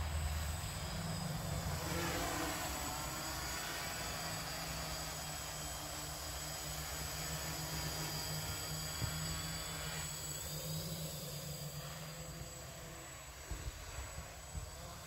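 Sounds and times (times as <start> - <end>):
quadcopter buzzing whine: 0.0 - 15.0.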